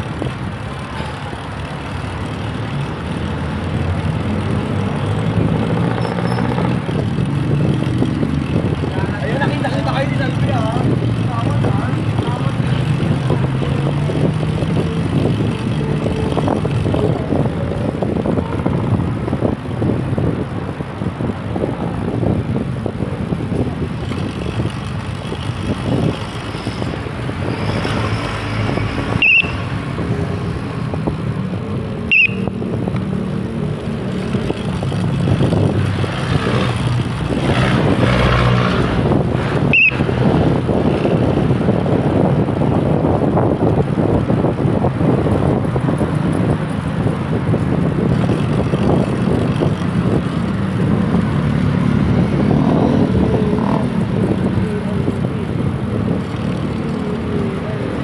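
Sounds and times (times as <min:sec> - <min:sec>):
road traffic rumble: 0:00.0 - 0:58.0
wind buffeting microphone: 0:02.7 - 0:58.0.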